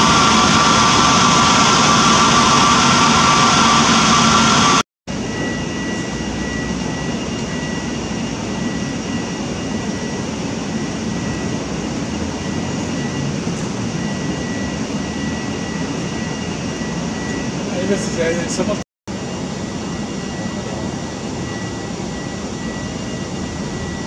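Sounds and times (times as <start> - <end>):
jet engines idling: 0.0 - 24.0
quieter drone with high whine: 0.0 - 24.0.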